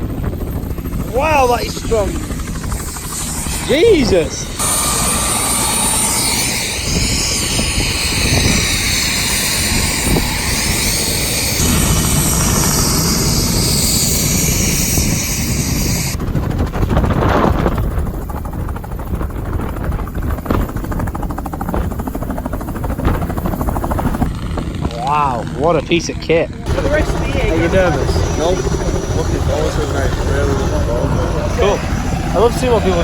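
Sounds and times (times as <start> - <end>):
helicopter rotor and turbine: 0.0 - 33.0
wind blowing across microphone: 0.0 - 33.0.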